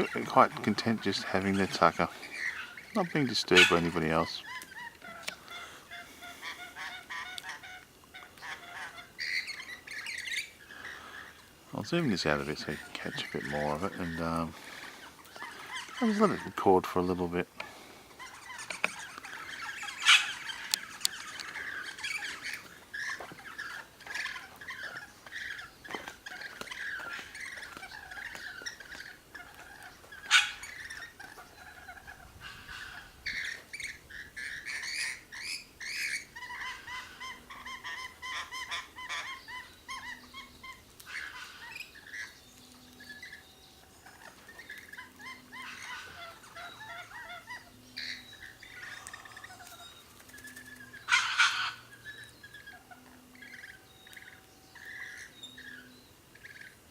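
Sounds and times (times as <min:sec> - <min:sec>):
small birds chattering: 0:00.0 - 0:56.9.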